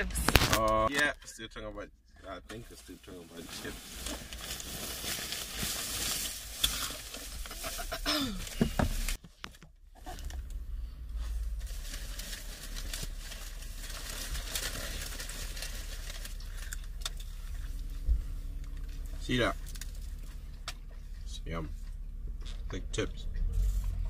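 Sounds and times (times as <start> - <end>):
crinkling and rustling: 0.0 - 0.9, 2.5 - 22.8.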